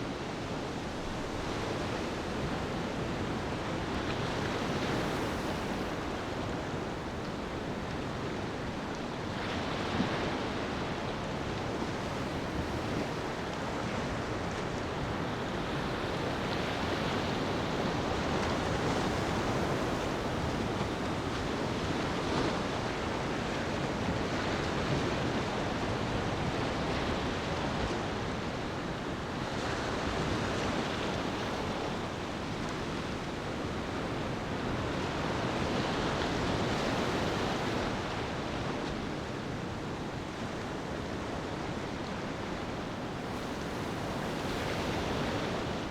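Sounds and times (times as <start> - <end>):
ocean waves washing on beach: 0.0 - 45.9.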